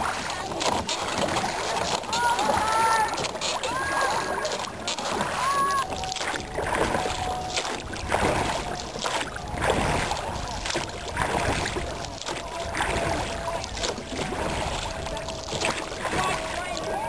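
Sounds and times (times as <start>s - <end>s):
oar splash or knock: 0.0s - 17.0s
oars pulling through water: 0.0s - 17.0s.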